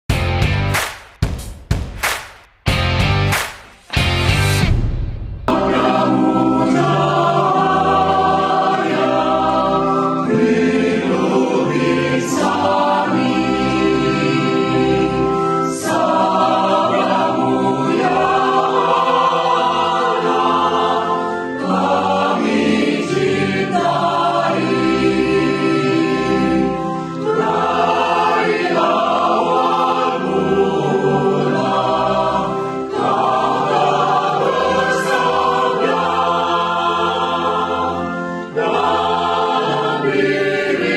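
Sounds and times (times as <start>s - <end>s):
choir singing a hymn: 5.5s - 40.9s.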